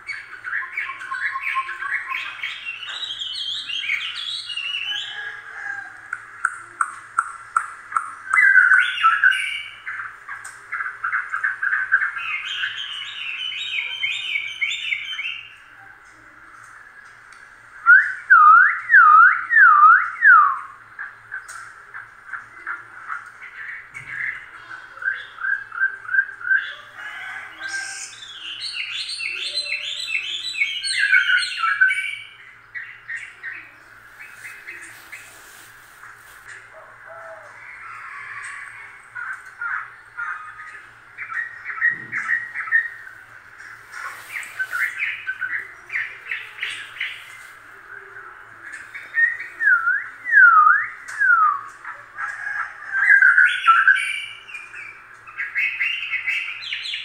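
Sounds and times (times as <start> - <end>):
high chirping and squeaking calls: 0.0 - 15.6, 23.2 - 57.0.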